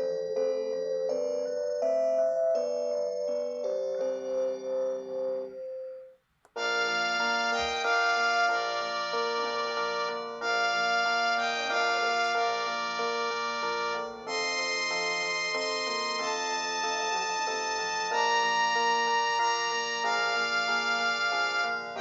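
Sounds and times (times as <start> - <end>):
phone ringtone melodies: 0.0 - 22.0.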